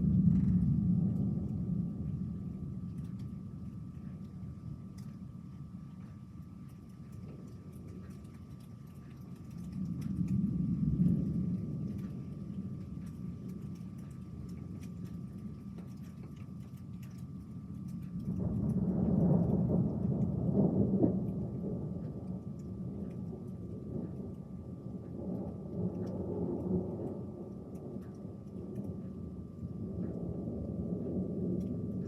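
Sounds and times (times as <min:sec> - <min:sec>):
raindrop ticks: 0:00.0 - 0:32.0
thunder rumbling: 0:00.0 - 0:32.0.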